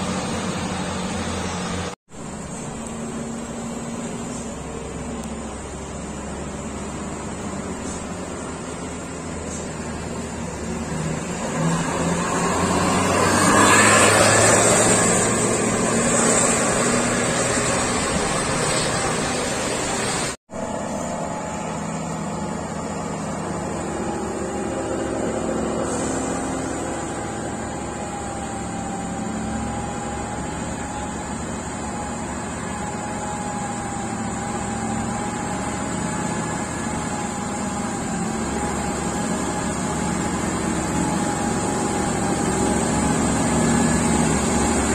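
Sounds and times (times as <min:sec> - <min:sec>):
bus engine running: 0:00.0 - 0:44.9
truck diesel engine under load: 0:00.0 - 0:44.9.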